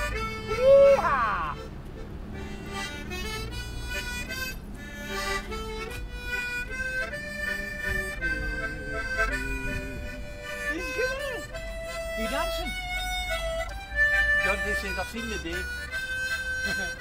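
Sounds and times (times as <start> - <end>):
harmonica playing slow tune: 0.0 - 17.0.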